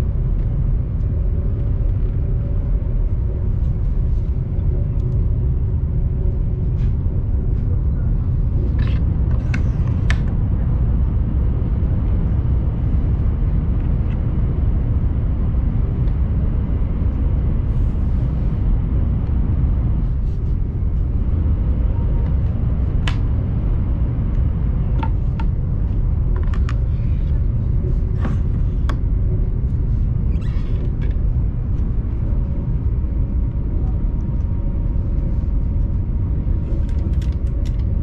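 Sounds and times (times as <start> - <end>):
train cabin rumble: 0.0 - 38.0.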